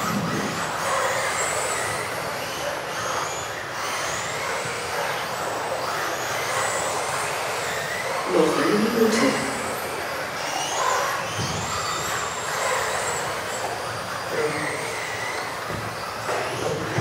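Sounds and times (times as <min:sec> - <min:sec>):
high-pitched rc motor whines: 0:00.0 - 0:17.0.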